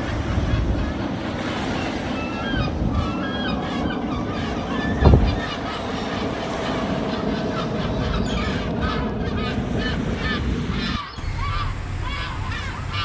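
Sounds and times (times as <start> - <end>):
gulls calling: 0.0 - 13.0
steady low rumble: 0.0 - 13.0.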